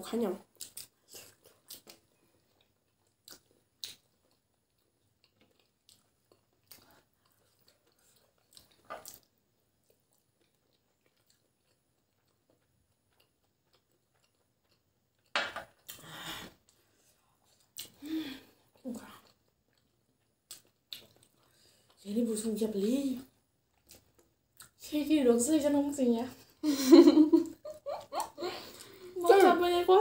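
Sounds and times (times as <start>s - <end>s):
people chewing food: 0.2s - 24.9s, 26.3s - 30.0s.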